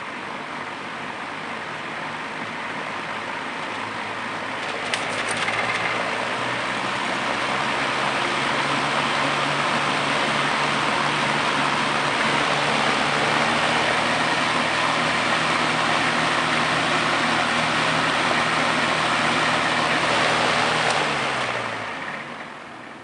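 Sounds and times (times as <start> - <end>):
fan air rush: 0.0 - 23.0
fan motor hum: 0.0 - 23.0.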